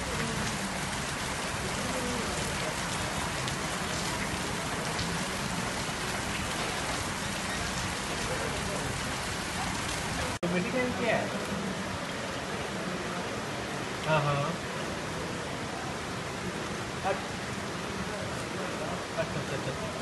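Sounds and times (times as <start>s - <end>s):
rain falling on wet street: 0.0s - 20.0s.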